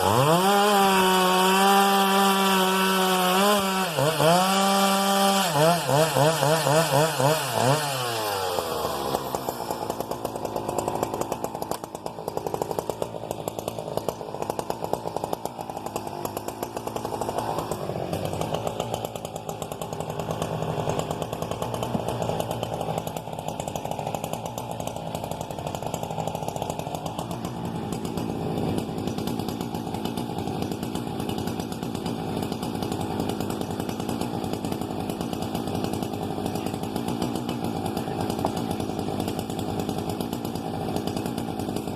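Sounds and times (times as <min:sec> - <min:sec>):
chainsaw running: 0:00.0 - 0:41.9.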